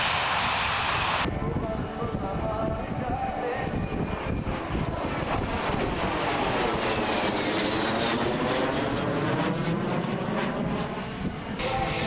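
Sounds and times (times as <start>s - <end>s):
aircraft engines passing overhead: 0.0s - 12.0s.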